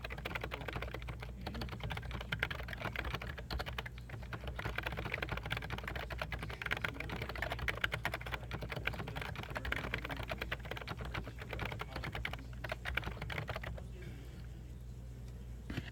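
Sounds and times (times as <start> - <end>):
fast keyboard typing: 0.0 - 13.8.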